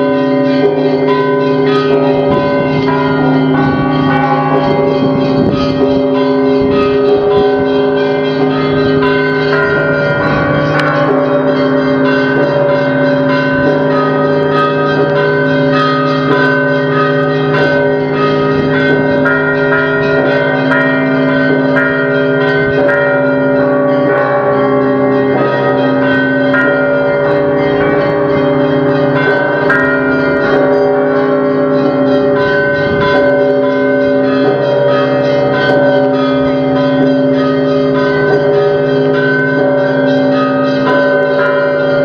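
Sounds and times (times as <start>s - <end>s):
church bells pealing: 0.0s - 42.0s.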